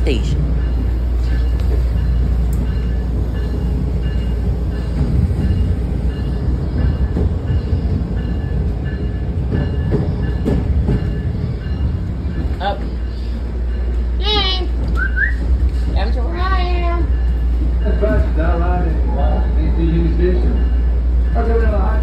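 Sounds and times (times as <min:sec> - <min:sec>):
train rumbling from inside: 0:00.0 - 0:22.0.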